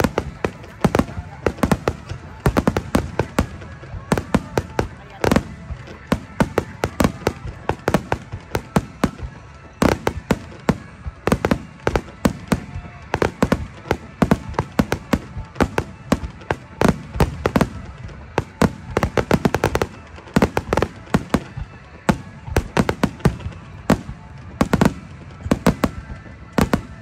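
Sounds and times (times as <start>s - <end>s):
rapid firework cracks: 0.0s - 26.0s
fireworks bangs: 0.0s - 27.0s.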